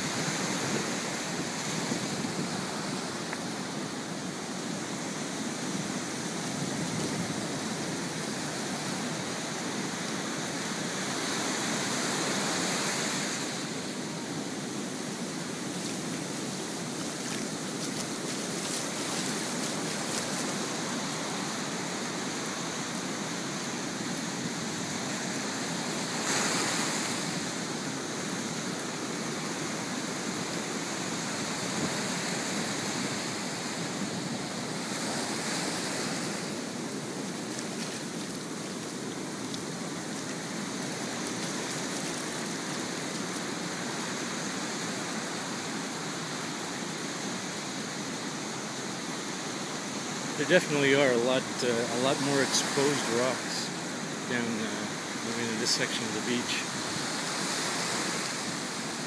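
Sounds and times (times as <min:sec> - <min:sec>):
ocean surf on sand beach: 0:00.0 - 0:59.0.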